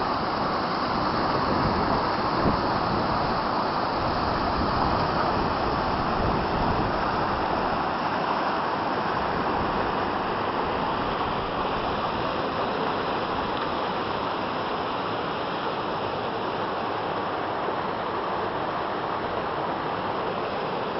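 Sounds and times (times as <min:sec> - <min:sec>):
stream rushing over rocks: 0:00.0 - 0:20.9.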